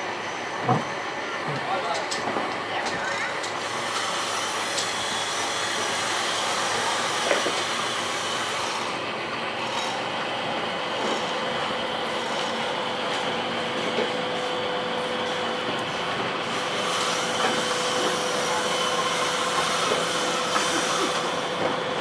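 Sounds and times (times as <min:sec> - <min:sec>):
cradle grinding on rails: 0:03.4 - 0:22.0.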